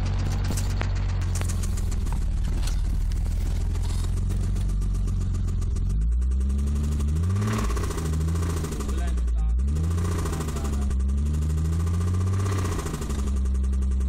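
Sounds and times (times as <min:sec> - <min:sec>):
car engine knocking: 0:00.0 - 0:14.0.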